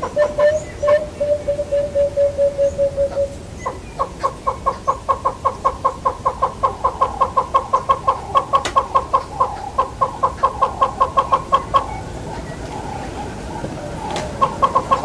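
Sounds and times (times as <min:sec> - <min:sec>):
hornbill calling: 0:00.0 - 0:15.0.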